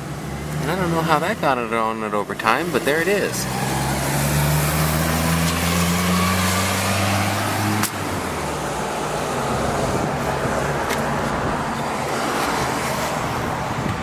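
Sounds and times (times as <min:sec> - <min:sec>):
vehicle engine humming: 0:00.0 - 0:14.0
outdoor rushing noise: 0:02.6 - 0:14.0.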